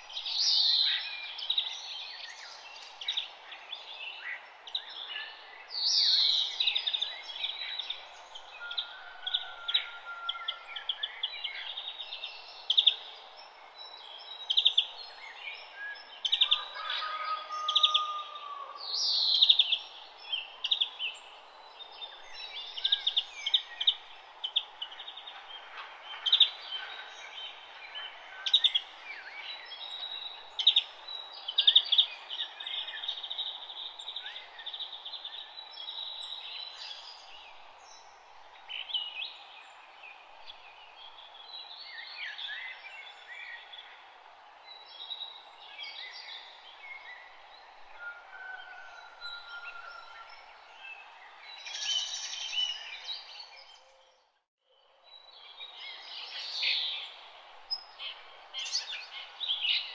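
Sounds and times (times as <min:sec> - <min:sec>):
birds chirping and trilling: 0:04.3 - 0:54.4, 0:55.1 - 0:59.9.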